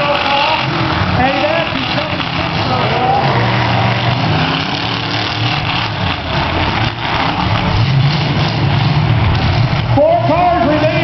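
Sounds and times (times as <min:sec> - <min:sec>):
car engines revving together: 0:00.0 - 0:11.0.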